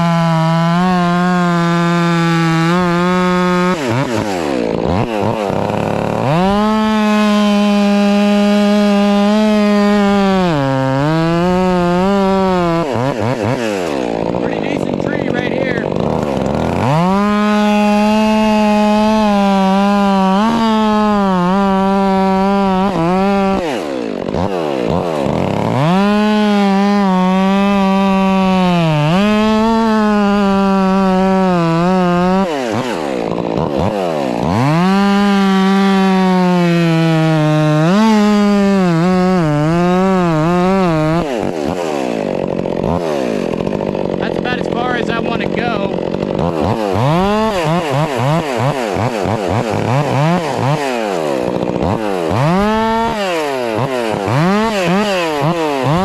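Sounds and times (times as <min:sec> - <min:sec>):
chainsaw cutting logs: 0:00.0 - 0:56.0.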